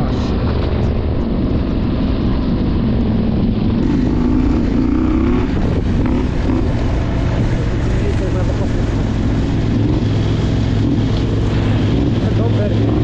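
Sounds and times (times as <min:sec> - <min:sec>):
motorcycle engine running: 0:00.0 - 0:13.0
steady rushing noise: 0:00.0 - 0:13.0.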